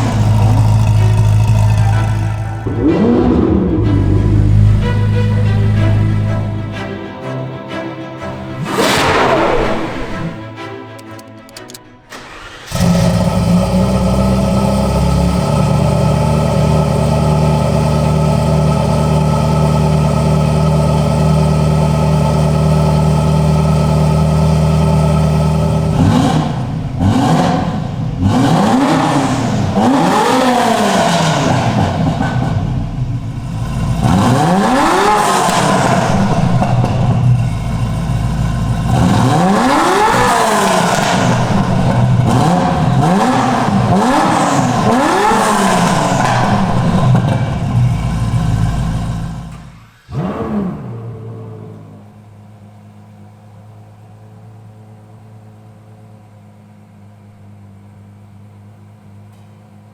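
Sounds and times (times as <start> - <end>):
car engine starting and revving: 0.0 - 52.8.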